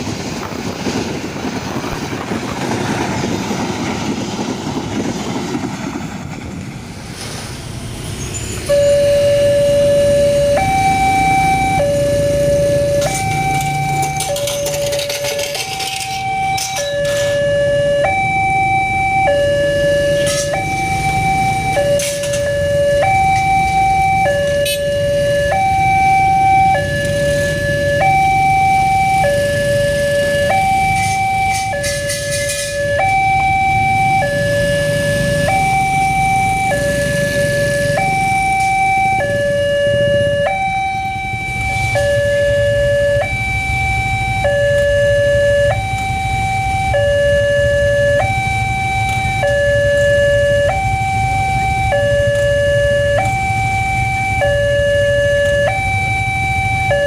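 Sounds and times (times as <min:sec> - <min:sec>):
two-tone level crossing siren: 0:08.3 - 0:57.0.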